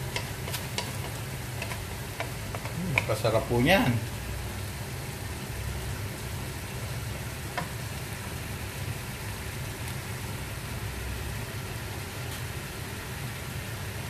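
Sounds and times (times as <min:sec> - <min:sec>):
meat sizzling in a wok: 0:00.0 - 0:14.0.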